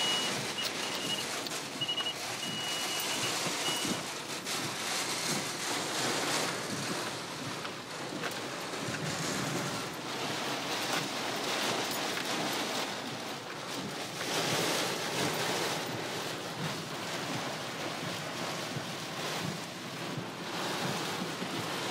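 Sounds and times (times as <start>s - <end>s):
heavy rain: 0.0s - 21.9s
wind: 0.0s - 21.9s.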